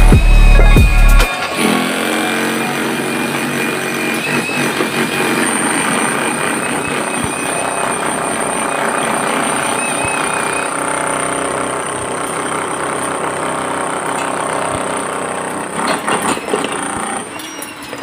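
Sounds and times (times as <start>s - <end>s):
jackhammer hammering concrete: 0.0s - 18.0s.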